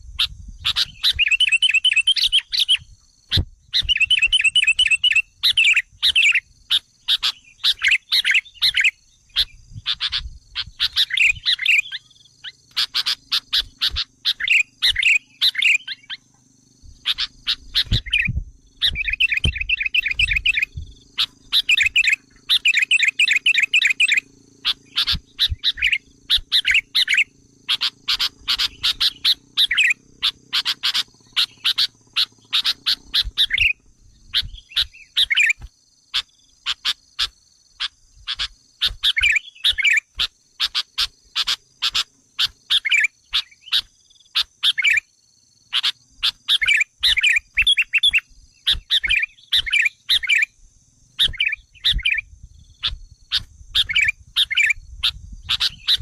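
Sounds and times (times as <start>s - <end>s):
bulbul chattering calls: 0.2s - 45.1s, 45.7s - 50.6s, 51.2s - 56.0s.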